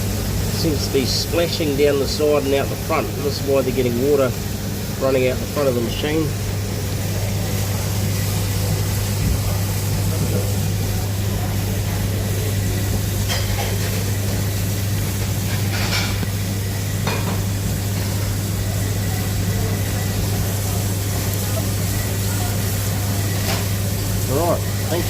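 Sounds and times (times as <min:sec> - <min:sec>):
dishwasher motor hum: 0:00.0 - 0:25.0
water spraying hiss: 0:00.0 - 0:25.0.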